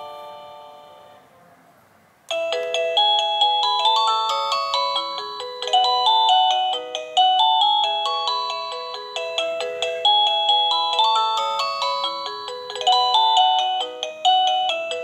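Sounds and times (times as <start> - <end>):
electronic doorbell chime tune: 0.0 - 1.2, 2.3 - 15.0.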